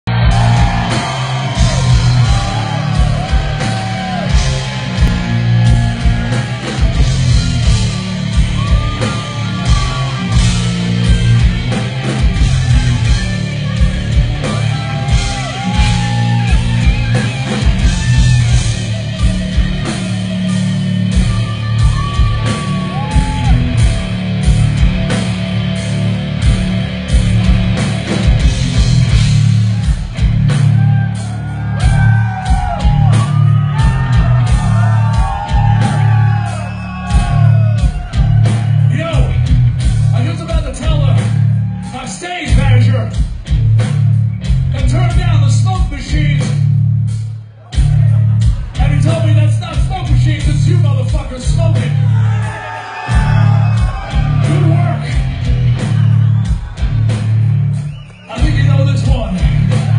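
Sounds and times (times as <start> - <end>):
bass guitar: 0.0 - 59.9
pounding drum kit: 0.0 - 59.9
distorted electric guitars: 0.1 - 41.9, 51.6 - 59.9.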